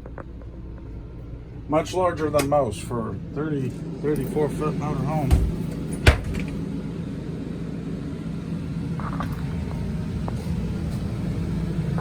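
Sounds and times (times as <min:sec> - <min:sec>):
low motor rumble: 0:00.0 - 0:12.0.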